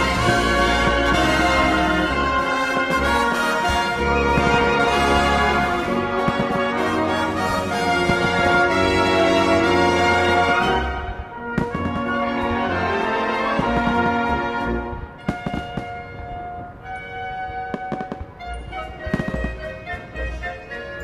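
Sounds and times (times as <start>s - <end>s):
fireworks banging and crackling: 0.0s - 20.5s
orchestral music with brass: 0.0s - 21.0s.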